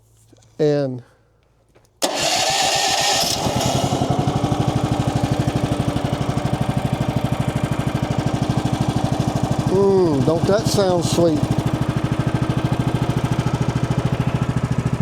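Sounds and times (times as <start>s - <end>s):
sawmill engine starting and running: 2.0s - 15.0s.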